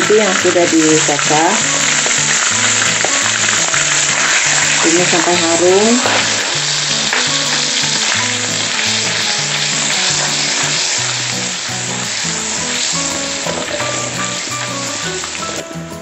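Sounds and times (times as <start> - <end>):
bossa nova background music: 0.0 - 16.0
garlic sizzling in butter: 0.0 - 16.0.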